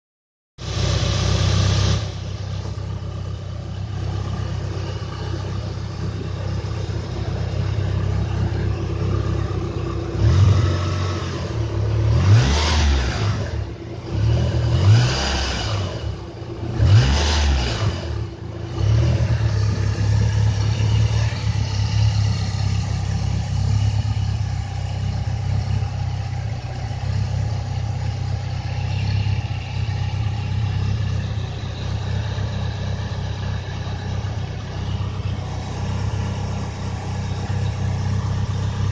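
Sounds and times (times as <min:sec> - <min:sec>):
car engine misfiring and revving: 0:00.6 - 0:38.9.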